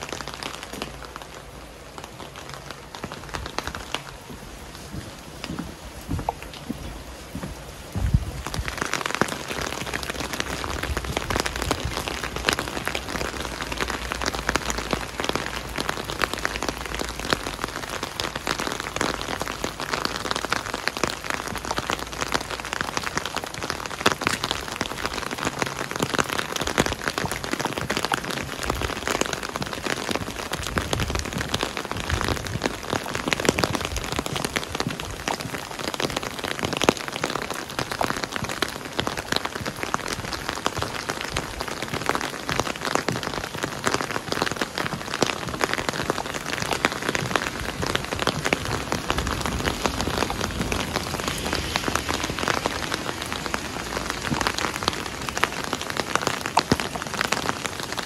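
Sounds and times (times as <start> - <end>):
rain on a hard surface: 0.0 - 58.0.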